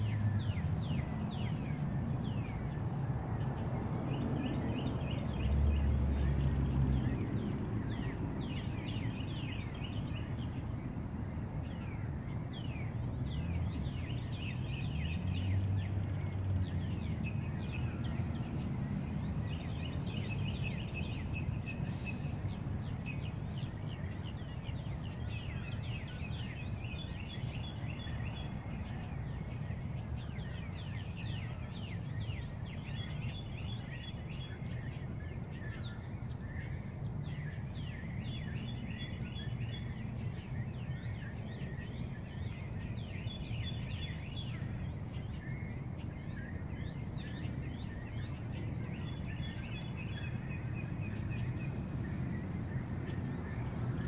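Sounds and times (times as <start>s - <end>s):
chorus of birds calling: 0.0s - 54.0s.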